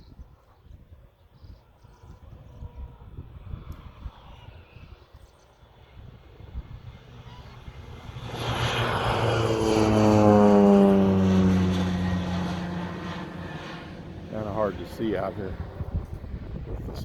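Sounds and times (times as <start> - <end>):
airplane engine and propeller passing: 0.3 - 17.0.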